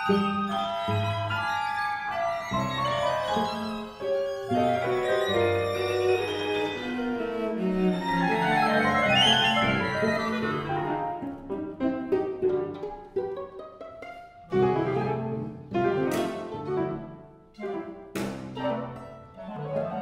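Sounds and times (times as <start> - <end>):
contemporary chamber music ensemble: 0.0 - 20.0.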